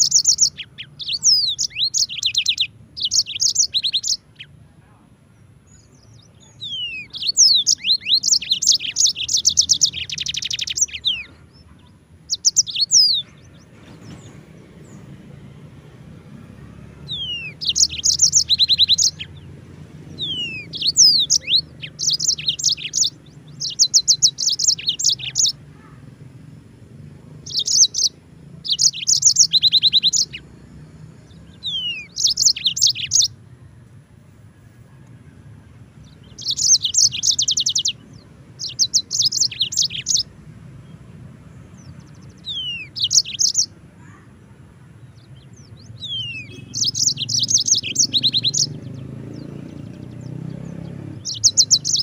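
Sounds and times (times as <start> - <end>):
canary singing whistles and trills: 0.0 - 4.6, 5.6 - 44.4, 45.0 - 52.0.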